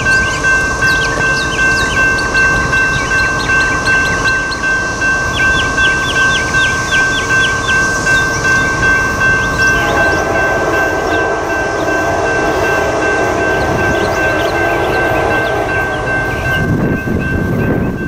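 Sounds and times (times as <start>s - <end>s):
distant train horn: 0.0s - 18.0s
electronic crossing bell ringing: 0.0s - 18.0s.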